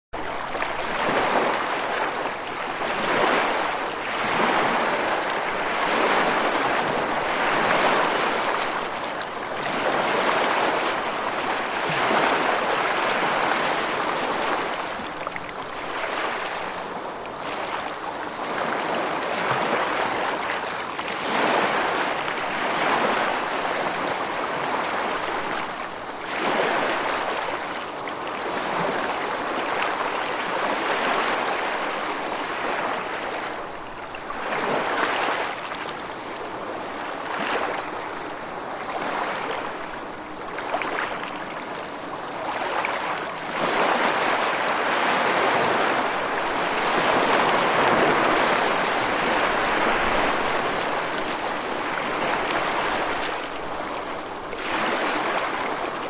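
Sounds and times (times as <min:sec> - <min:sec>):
rushing water: 0:00.2 - 0:56.0.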